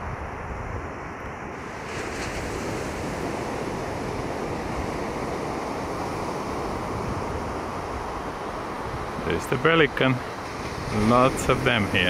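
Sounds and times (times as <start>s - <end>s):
ocean surf washing onto beach: 0.0s - 12.0s
wind rumbling on microphone: 0.0s - 12.0s.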